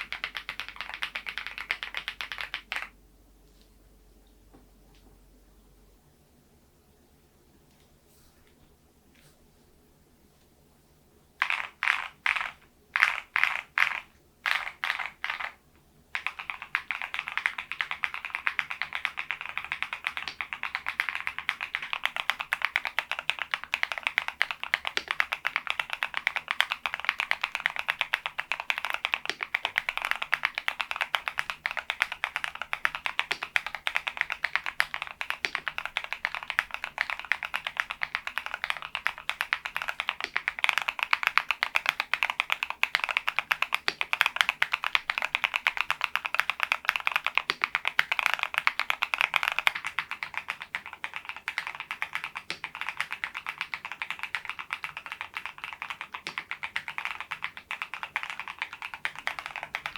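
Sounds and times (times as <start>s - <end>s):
mechanical keyboard typing: 0.0s - 2.9s, 11.4s - 15.6s, 16.2s - 59.9s.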